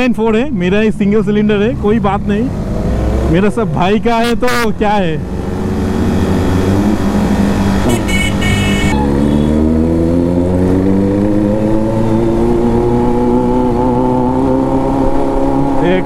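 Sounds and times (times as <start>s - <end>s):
motorcycle engines accelerating: 0.0s - 16.0s.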